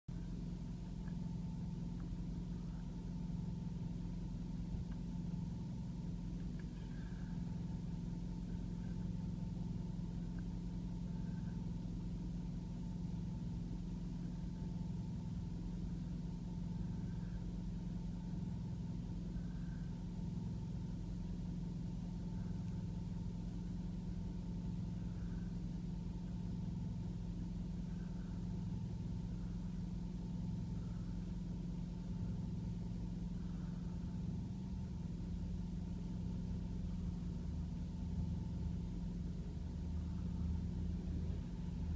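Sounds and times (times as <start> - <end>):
diesel engine idling: 0.1 - 41.9.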